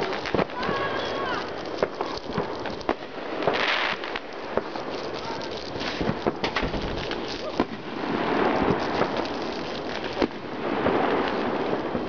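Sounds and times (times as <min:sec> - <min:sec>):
fireworks crackling and banging: 0:00.0 - 0:12.0
sharp firework reports: 0:00.0 - 0:12.0.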